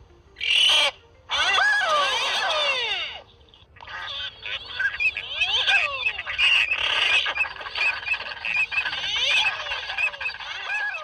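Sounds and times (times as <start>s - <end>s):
flock of birds calling: 0.4s - 11.0s.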